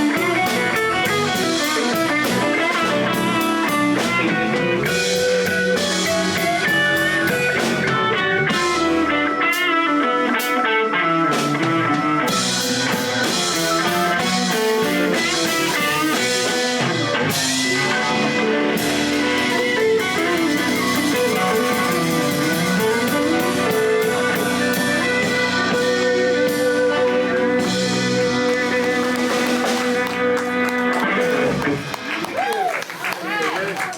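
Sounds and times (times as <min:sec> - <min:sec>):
electric guitar lead: 0:00.0 - 0:32.7
live blues band playing: 0:00.0 - 0:33.9.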